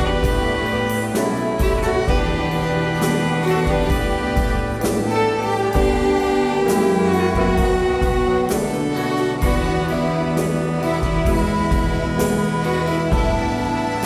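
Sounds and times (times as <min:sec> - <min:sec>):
orchestra playing sustained chords: 0:00.0 - 0:14.0.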